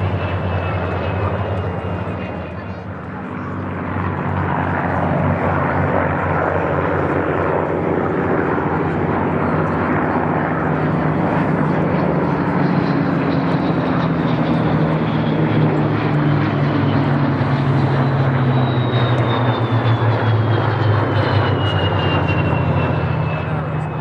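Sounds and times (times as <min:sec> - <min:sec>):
aircraft engines droning and whining: 0:00.0 - 0:24.0.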